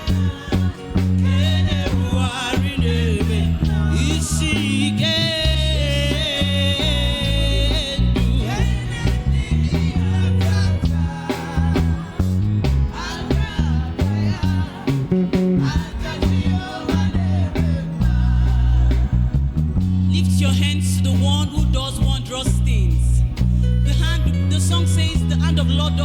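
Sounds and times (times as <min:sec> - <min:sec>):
person singing: 0:00.0 - 0:22.5
bass line: 0:00.0 - 0:26.0
drums: 0:00.0 - 0:26.0
gospel worship music: 0:00.0 - 0:26.0
guitar: 0:00.0 - 0:26.0.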